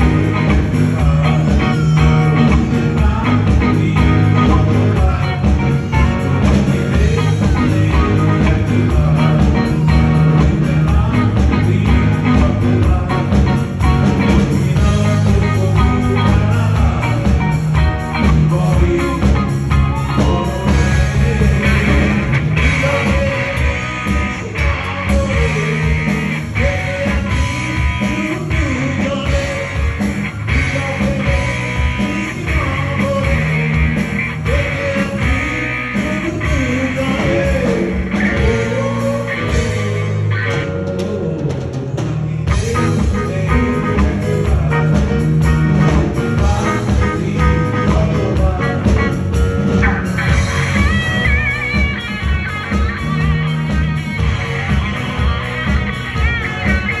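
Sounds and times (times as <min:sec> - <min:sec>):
electric guitar: 0:00.0 - 0:57.0
keyboard: 0:00.0 - 0:57.0
male lead singer: 0:00.0 - 0:57.0.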